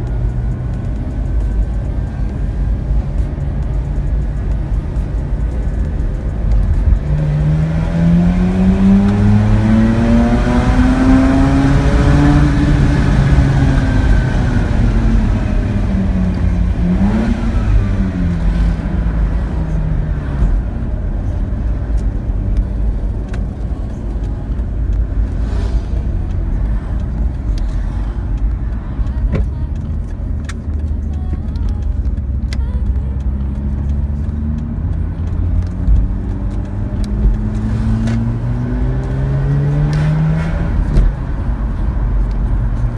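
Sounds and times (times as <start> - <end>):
road noise: 0.0 - 42.9
rotary engine revving: 0.0 - 42.9.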